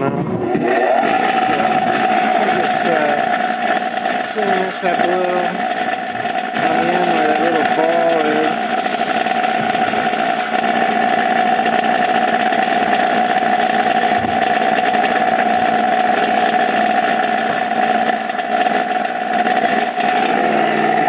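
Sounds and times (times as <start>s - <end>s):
electric grinder motor running: 0.0s - 21.0s.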